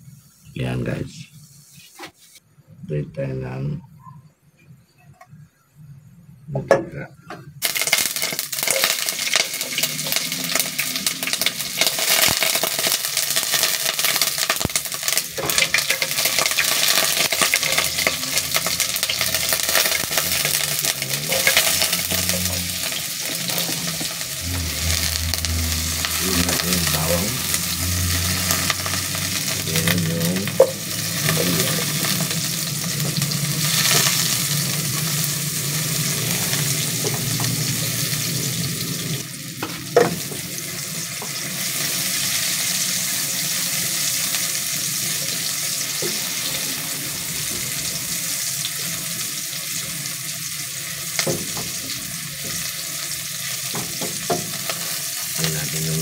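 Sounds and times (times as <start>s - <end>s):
vegetables sizzling in hot oil: 7.6s - 56.0s.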